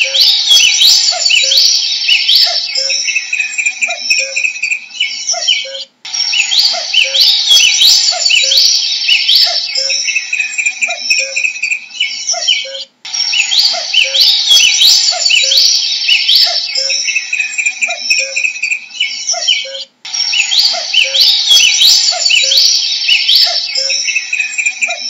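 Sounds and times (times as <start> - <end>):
cuckoo calling: 0.0 - 25.0
songbirds singing: 0.0 - 25.0.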